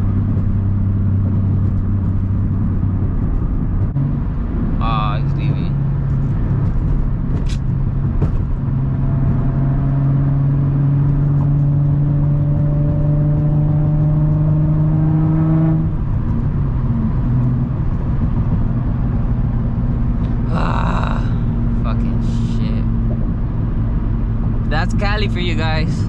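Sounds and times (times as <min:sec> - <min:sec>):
car exhaust deep drone: 0:00.0 - 0:26.0.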